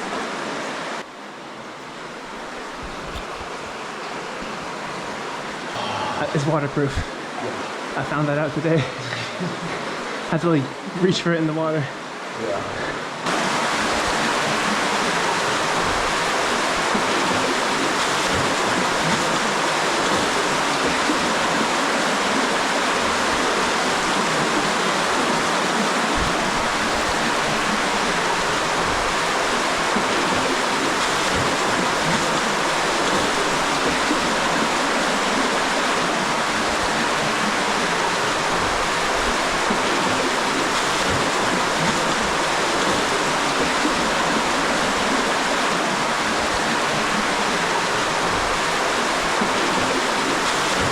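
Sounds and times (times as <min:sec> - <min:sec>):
stream rushing: 0:00.0 - 0:50.9.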